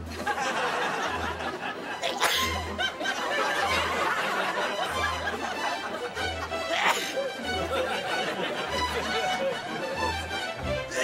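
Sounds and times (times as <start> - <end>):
low pulsing music: 0.0 - 11.0
people laughing and giggling: 0.0 - 11.0.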